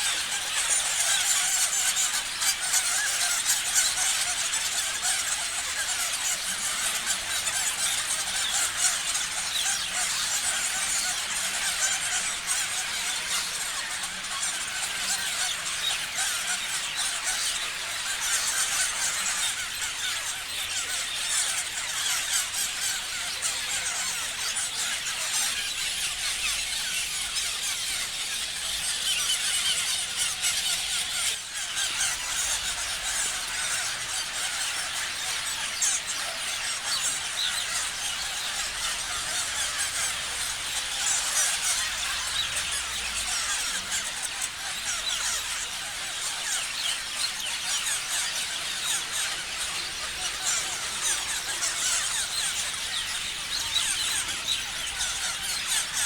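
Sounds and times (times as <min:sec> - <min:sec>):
parrots chattering and screeching: 0:00.0 - 0:56.0.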